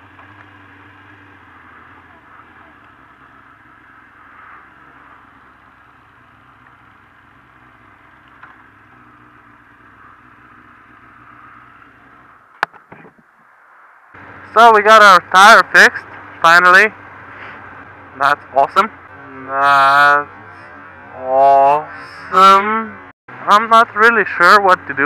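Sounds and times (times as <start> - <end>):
motorcycle engine at low revs: 0.0 - 13.2, 14.2 - 25.0.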